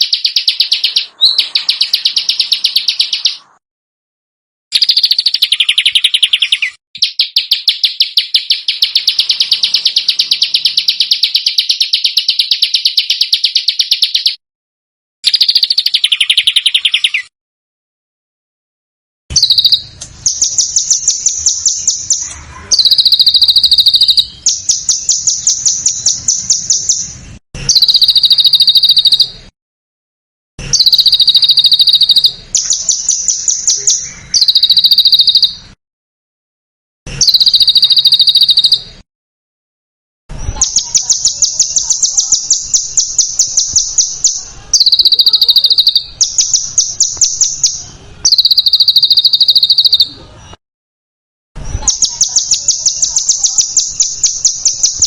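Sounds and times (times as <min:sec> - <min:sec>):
songbird fast trills: 0:00.0 - 0:03.6, 0:04.8 - 0:14.4, 0:15.3 - 0:17.3, 0:19.3 - 0:29.4, 0:30.7 - 0:35.7, 0:37.2 - 0:38.9, 0:40.4 - 0:50.3, 0:51.8 - 0:55.0.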